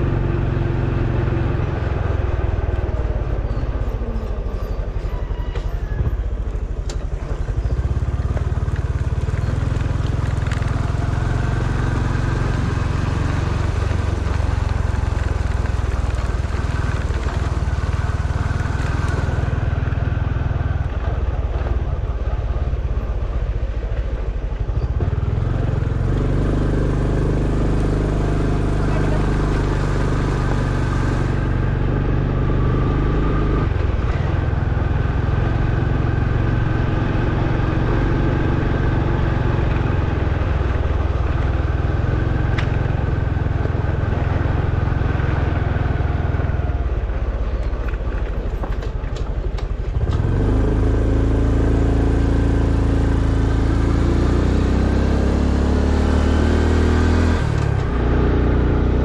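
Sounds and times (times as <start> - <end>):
motorcycle engine running: 0.0 - 4.9, 6.1 - 59.0.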